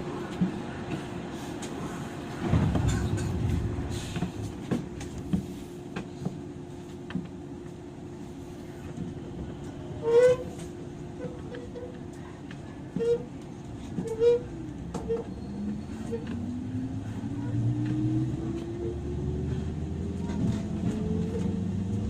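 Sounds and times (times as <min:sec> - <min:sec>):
train car hum: 0:00.0 - 0:22.0.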